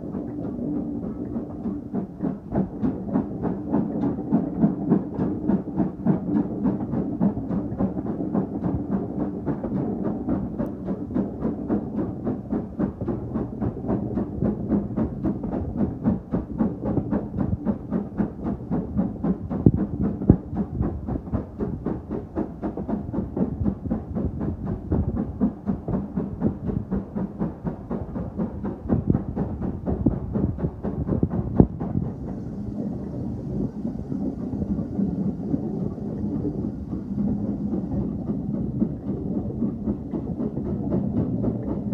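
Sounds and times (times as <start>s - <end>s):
steam train running: 0.0s - 41.9s.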